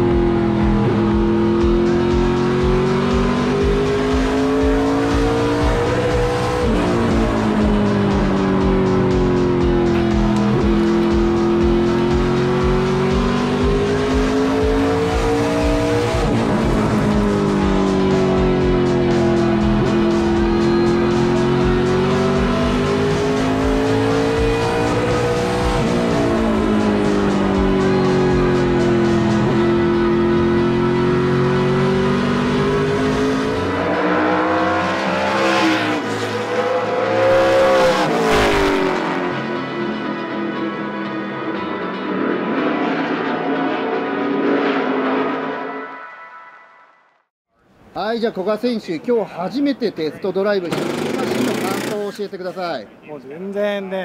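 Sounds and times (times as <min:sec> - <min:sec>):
race car engine accelerating: 0:00.0 - 0:45.7, 0:50.6 - 0:52.2.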